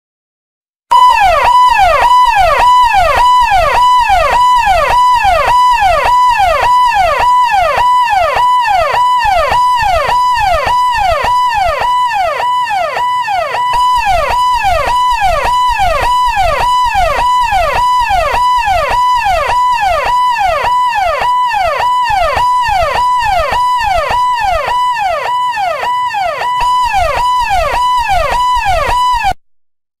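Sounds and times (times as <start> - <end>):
ambulance siren yelping: 0.9 - 29.4.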